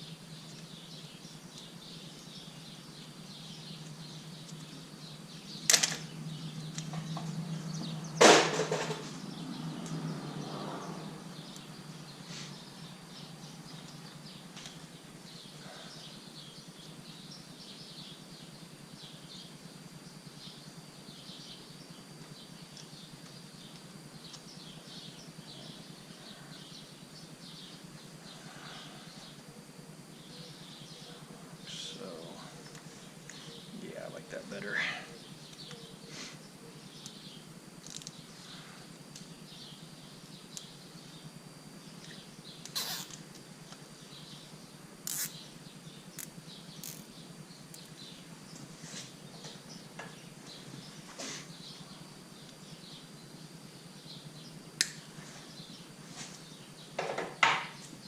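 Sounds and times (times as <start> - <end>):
birds chirping: 0.0 - 58.0
insects chirping: 0.0 - 58.0.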